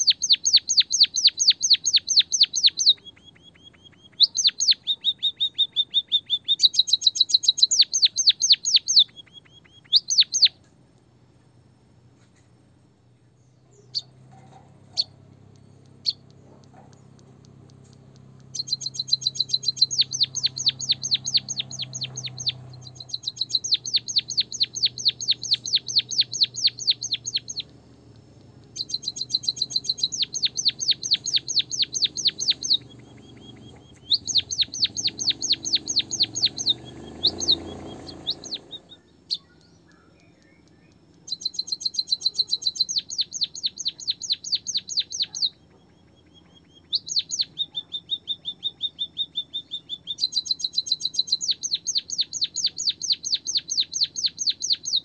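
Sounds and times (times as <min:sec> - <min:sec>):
bird chirping rapidly: 0:00.0 - 0:10.7, 0:13.3 - 0:55.0
bird lower trill: 0:00.0 - 0:55.0.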